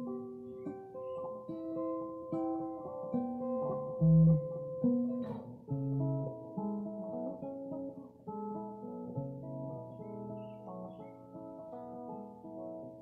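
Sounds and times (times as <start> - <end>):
clean electric guitar melody: 0.0 - 13.0.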